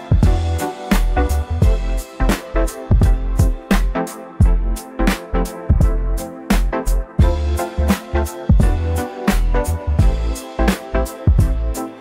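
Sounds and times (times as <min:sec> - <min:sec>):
instrumental eighties pop music: 0:00.0 - 0:12.0.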